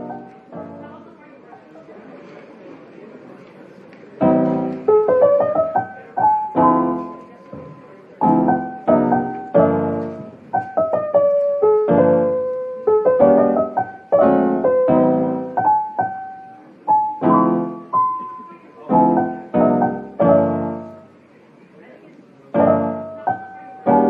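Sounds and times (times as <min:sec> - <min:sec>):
gentle piano music: 0:00.0 - 0:01.3, 0:04.2 - 0:21.2, 0:22.5 - 0:24.0.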